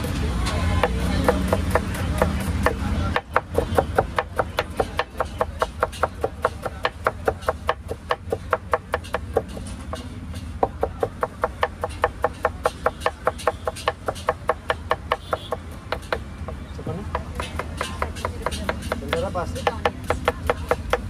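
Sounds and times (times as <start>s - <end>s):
knife chopping on wooden board: 0.7s - 21.0s.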